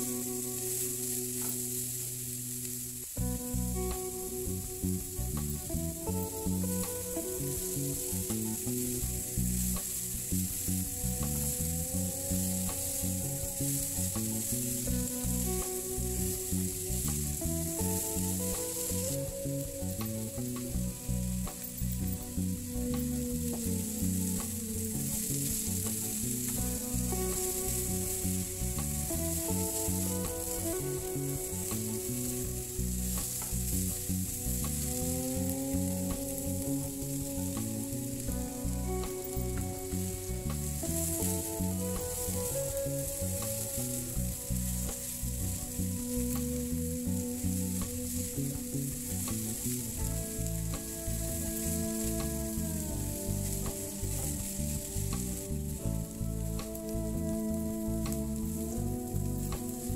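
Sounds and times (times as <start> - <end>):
vegetables sizzling in a pan: 0.0 - 59.9.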